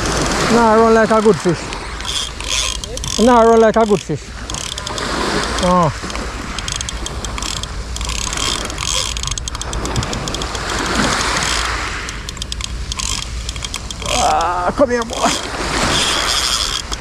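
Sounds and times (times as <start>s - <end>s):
fishing reel clicking and ratcheting: 0.0s - 17.0s.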